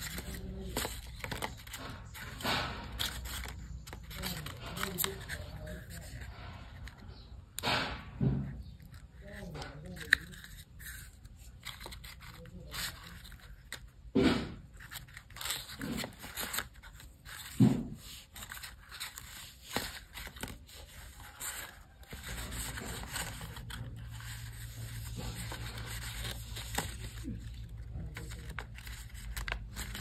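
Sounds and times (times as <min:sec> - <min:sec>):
hands scraping and rubbing materials: 0:00.0 - 0:30.0.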